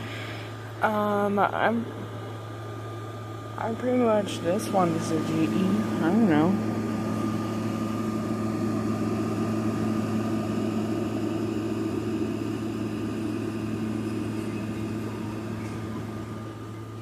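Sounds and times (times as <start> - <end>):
air conditioner humming: 0.0 - 17.0
faint high whine: 0.0 - 17.0.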